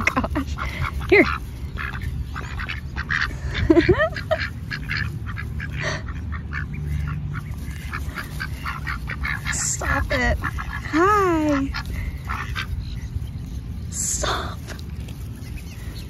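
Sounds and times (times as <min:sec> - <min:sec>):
ducks quacking: 0:00.0 - 0:16.0
steady low rumble: 0:00.0 - 0:16.0.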